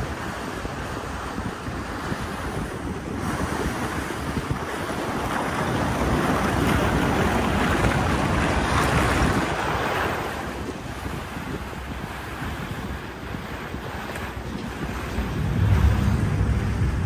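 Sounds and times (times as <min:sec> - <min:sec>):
rushing water: 0:00.0 - 0:17.0
wind buffeting microphone: 0:00.0 - 0:17.0.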